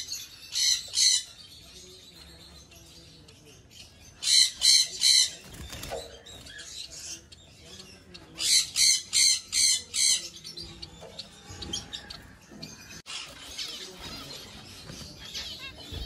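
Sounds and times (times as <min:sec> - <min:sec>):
birds squawking: 0:00.0 - 0:16.0.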